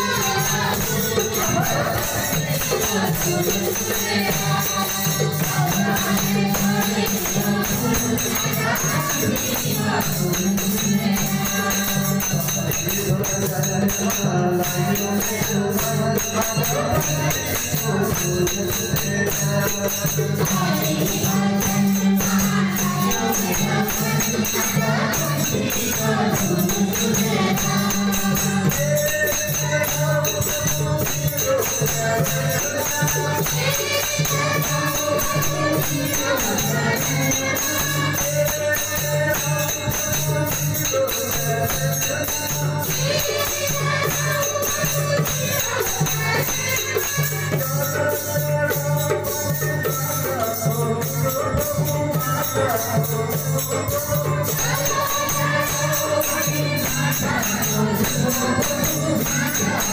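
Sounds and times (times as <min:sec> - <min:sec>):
group singing devotional song: 0:00.0 - 0:59.9
jingling percussion beat: 0:00.0 - 0:59.9.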